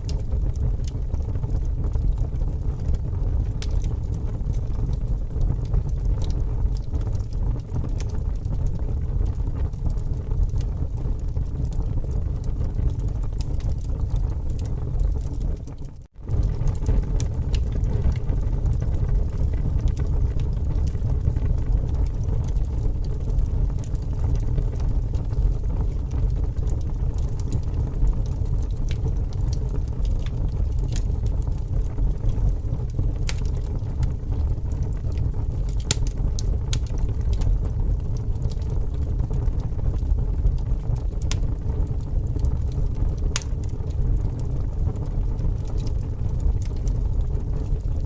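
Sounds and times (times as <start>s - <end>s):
sharp fire pops: 0.0s - 48.0s
steady low rumble: 0.0s - 48.0s
wood crackling in bonfire: 0.0s - 48.0s.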